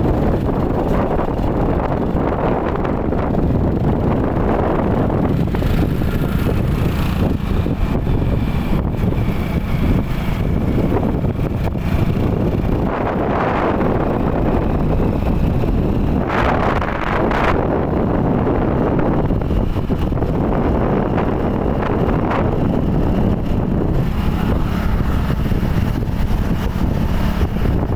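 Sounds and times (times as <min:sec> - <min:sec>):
road and engine noise: 0:00.0 - 0:27.9
wind rushing over microphone: 0:00.0 - 0:27.9.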